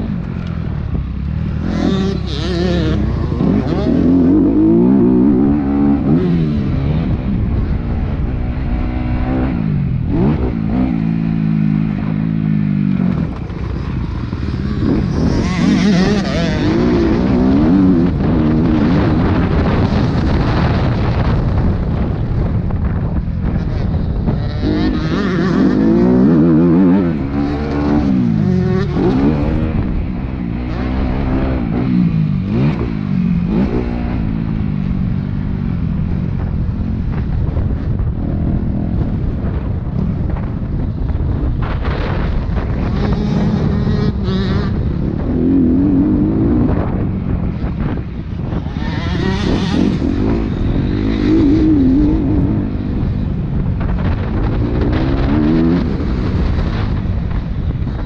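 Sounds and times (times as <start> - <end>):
motocross bike engine revving: 0.0 - 36.2, 41.0 - 58.0.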